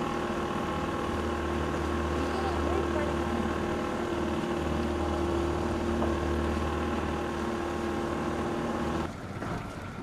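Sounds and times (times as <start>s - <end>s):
motorboat engine running: 0.0s - 10.0s
water rushing: 0.0s - 10.0s.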